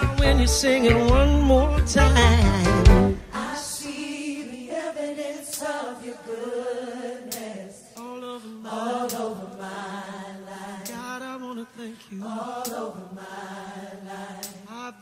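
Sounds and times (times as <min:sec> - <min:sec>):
voices singing long-held notes: 0:00.0 - 0:15.0.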